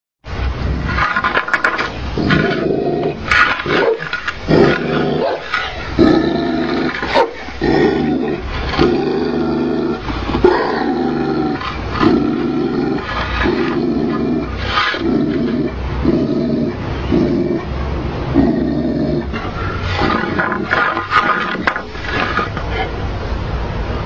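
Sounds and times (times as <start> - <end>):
dog growling: 0.6 - 23.0.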